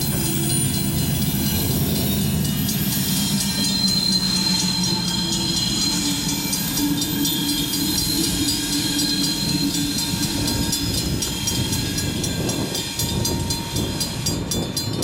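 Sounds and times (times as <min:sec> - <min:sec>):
crossing warning bell ringing: 0:00.0 - 0:15.0
train wheels clicking over rails: 0:00.0 - 0:15.0.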